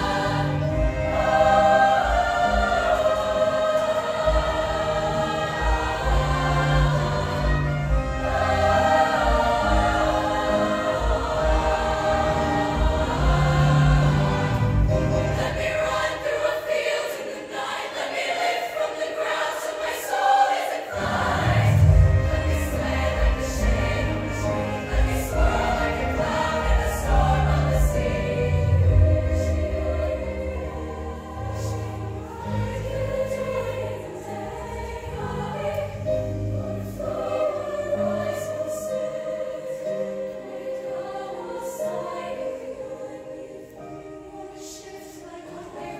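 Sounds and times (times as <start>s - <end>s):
choir singing: 0.0s - 45.9s.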